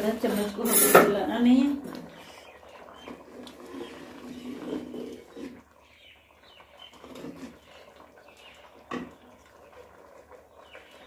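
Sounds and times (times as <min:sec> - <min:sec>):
birds chirping: 0:01.4 - 0:11.0.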